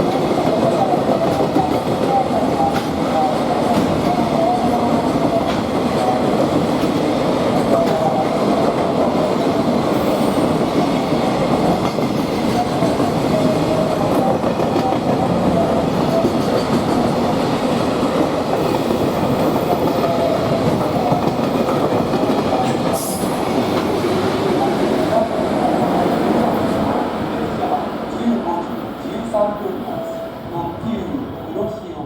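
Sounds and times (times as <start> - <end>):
freight train wagons rumbling: 0.0 - 32.0.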